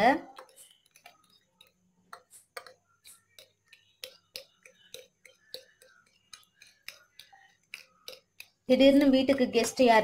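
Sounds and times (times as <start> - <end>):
fork clicking against glass bowl: 0.3 - 9.4.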